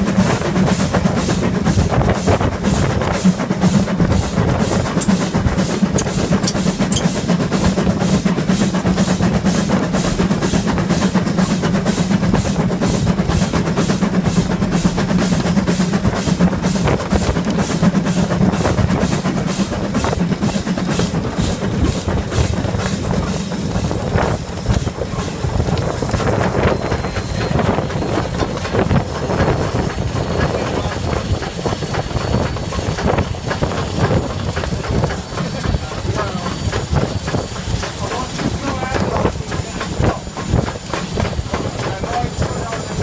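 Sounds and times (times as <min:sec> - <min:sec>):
rumble of train wheels: 0:00.0 - 0:43.0
steam locomotive exhaust chuffing: 0:00.0 - 0:43.0.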